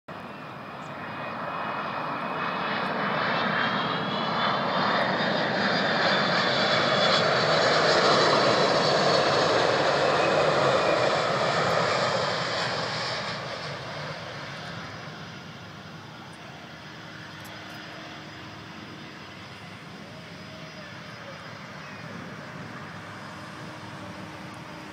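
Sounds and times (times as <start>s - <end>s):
jet engines roaring: 0.1s - 24.9s.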